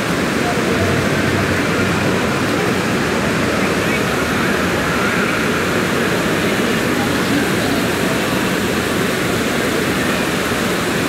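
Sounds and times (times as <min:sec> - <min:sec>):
fountain water splashing: 0:00.0 - 0:11.0
people's voices: 0:00.0 - 0:11.0.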